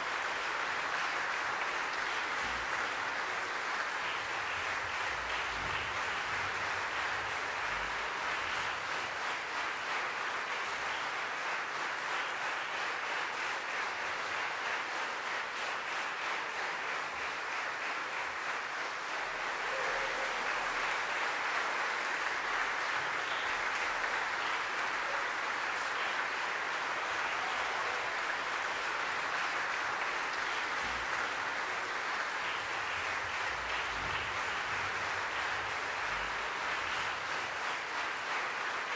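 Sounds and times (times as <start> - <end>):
audience applauding: 0.0 - 38.9.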